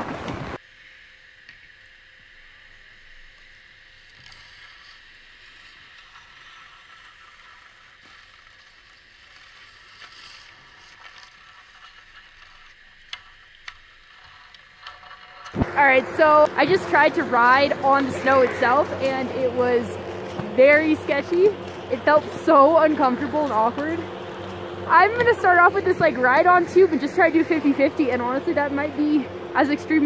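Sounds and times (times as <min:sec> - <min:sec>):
faint outdoor hiss: 0:00.0 - 0:30.0.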